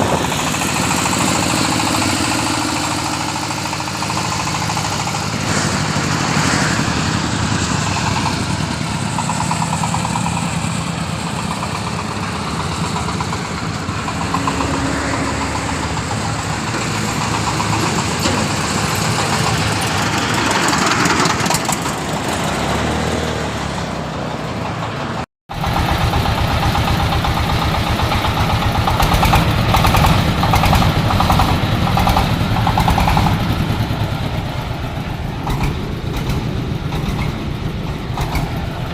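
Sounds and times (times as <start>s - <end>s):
corn sheller engine running: 0.0s - 23.5s, 24.4s - 38.9s.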